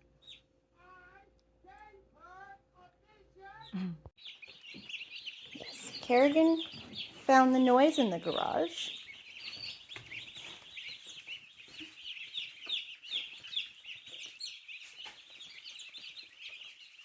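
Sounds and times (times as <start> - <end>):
chicks peeping: 0.1 - 2.5, 3.4 - 17.0.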